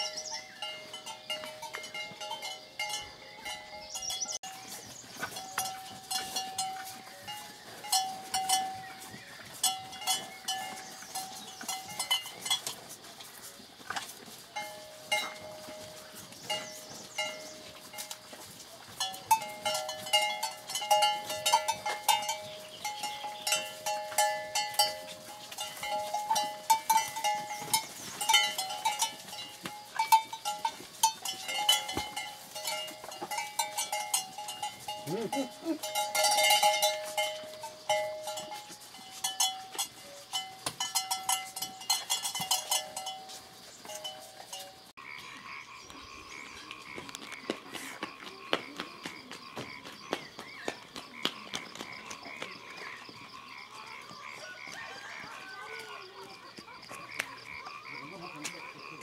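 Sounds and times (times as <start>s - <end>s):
cattle bells clanking: 0.0s - 45.6s, 51.0s - 59.0s.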